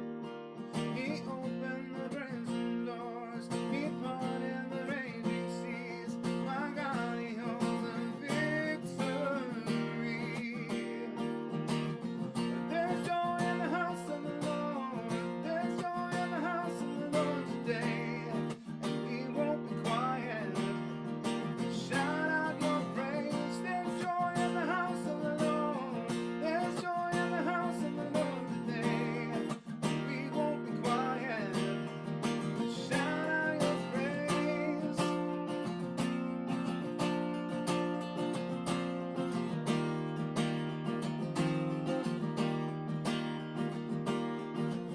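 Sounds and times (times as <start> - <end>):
acoustic guitar strumming: 0.0 - 44.9.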